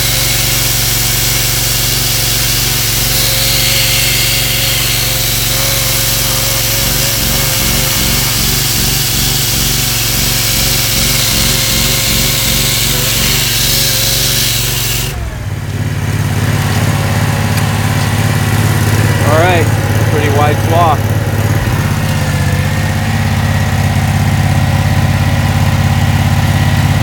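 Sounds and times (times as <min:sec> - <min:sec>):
concrete chainsaw cutting: 0:00.0 - 0:27.0
power unit engine running: 0:00.0 - 0:27.0.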